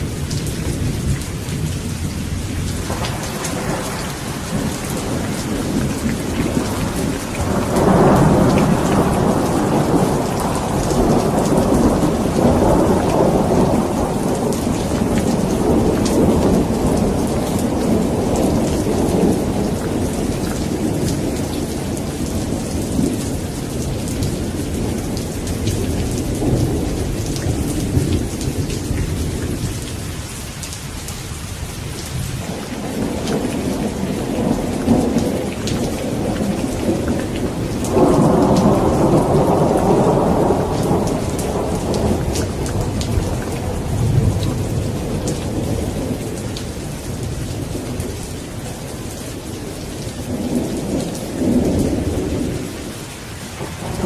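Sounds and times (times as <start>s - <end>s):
rolling thunder: 0.0s - 30.2s, 31.9s - 54.0s
steady rain: 0.0s - 54.0s.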